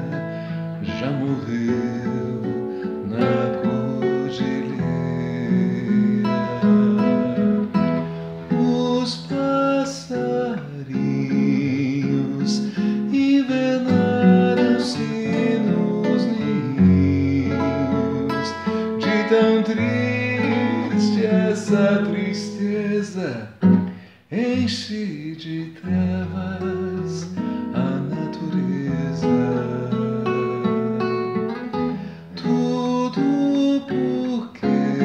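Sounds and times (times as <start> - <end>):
classical guitar playing: 0.0 - 35.0.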